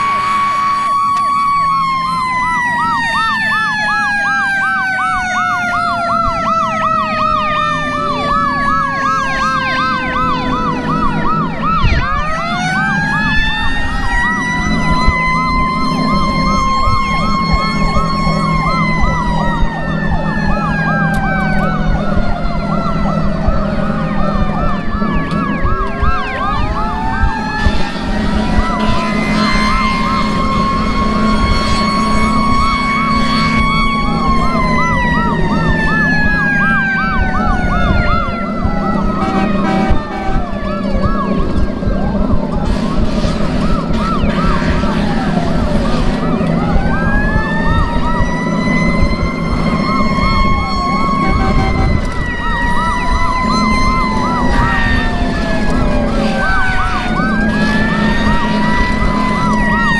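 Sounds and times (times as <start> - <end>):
fast warbling siren: 0.0 - 59.9
fire engine rumbling: 0.0 - 59.9
fire engine sirens wailing: 0.0 - 59.9.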